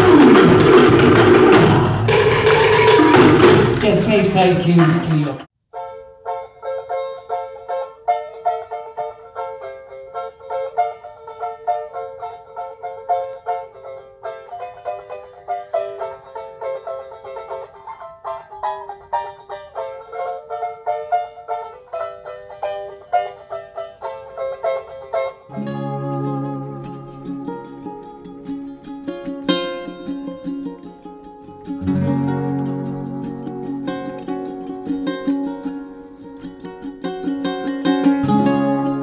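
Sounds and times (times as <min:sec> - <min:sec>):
plucked string music: 0:04.7 - 0:39.0.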